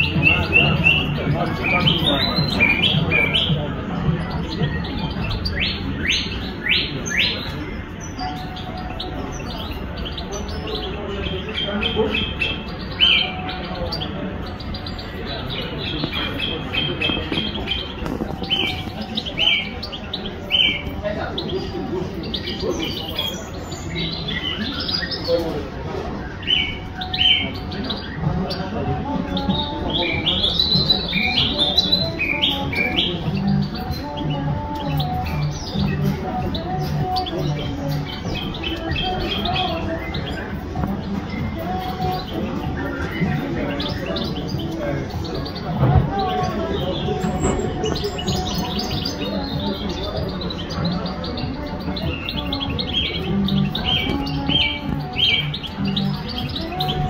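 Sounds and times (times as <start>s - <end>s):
song thrush singing: 0.0s - 57.0s.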